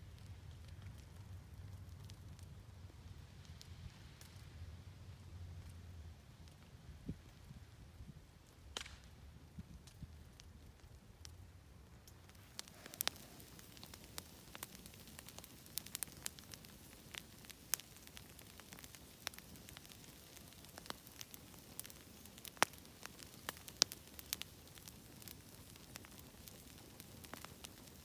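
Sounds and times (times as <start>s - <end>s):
faint steady hiss: 0.0s - 28.0s
fire crackling and popping: 0.0s - 28.0s.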